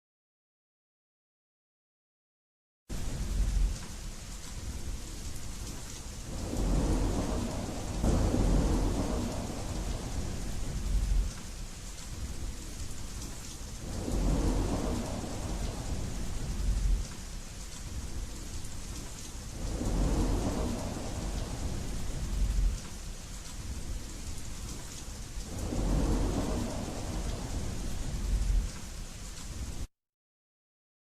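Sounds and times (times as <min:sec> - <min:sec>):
rain hissing: 0:02.9 - 0:29.9
thunder rumbling: 0:02.9 - 0:29.9.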